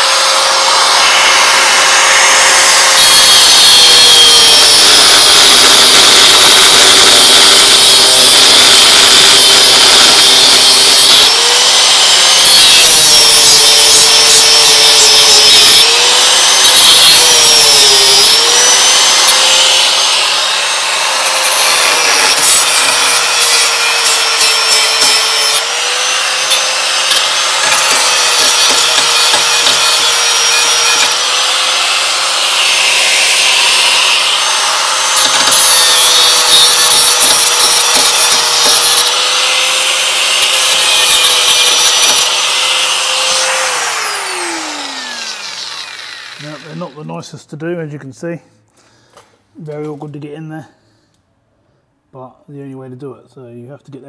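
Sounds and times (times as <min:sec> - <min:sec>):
angle grinder cutting steel: 0:00.0 - 0:47.2.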